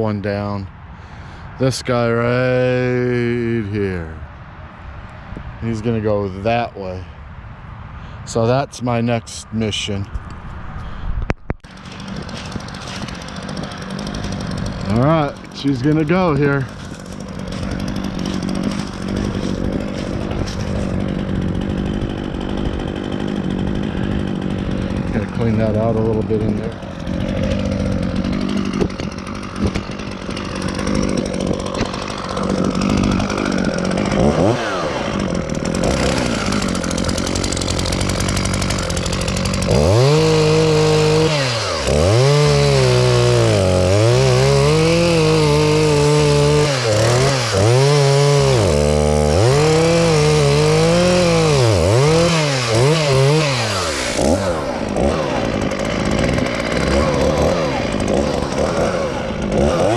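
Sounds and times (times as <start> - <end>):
chainsaw cutting wood: 11.6 - 59.9.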